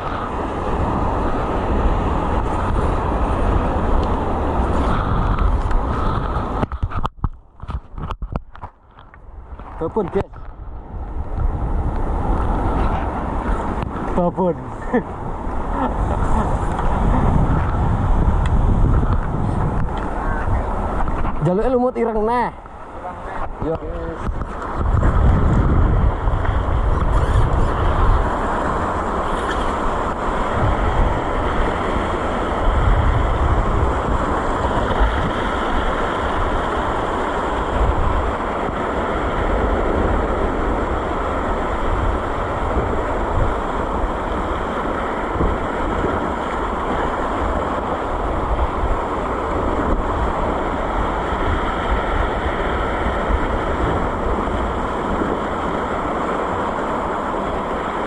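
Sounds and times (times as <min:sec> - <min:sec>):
sea waves: 0:00.0 - 0:58.0
wind buffeting microphone: 0:00.0 - 0:58.0.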